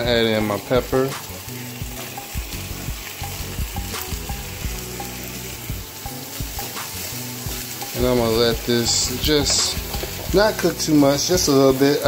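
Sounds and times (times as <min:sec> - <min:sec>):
chicken and peppers sizzling: 0:00.0 - 0:12.0.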